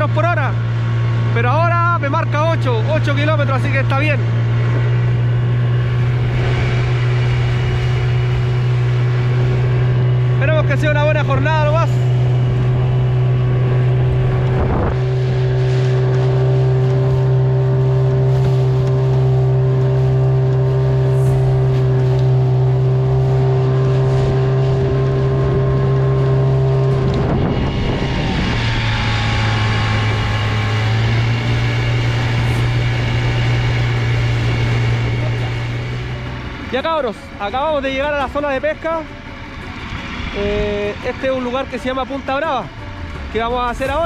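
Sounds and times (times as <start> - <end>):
motorboat engine running: 0.0 - 44.0.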